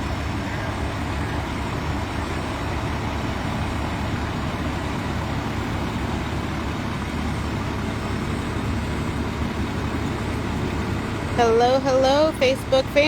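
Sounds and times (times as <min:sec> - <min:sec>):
heavy diesel equipment rumbling: 0:00.0 - 0:13.0.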